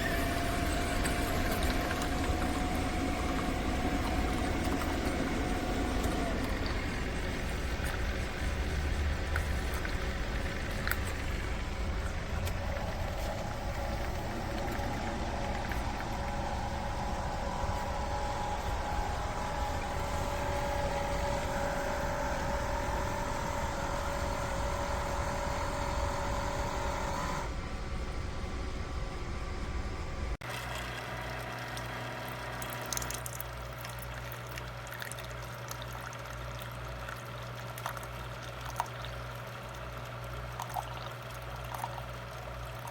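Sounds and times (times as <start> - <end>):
water noise: 0.0 - 27.5, 30.4 - 42.9
pod coffee maker humming: 0.0 - 42.9.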